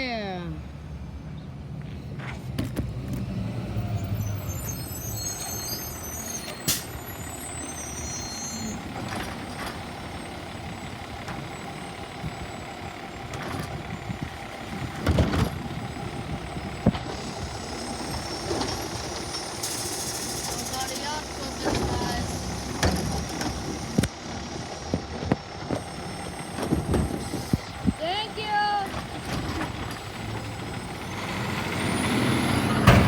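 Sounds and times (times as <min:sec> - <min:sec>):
garbage truck engine rumbling: 0:00.0 - 0:33.0.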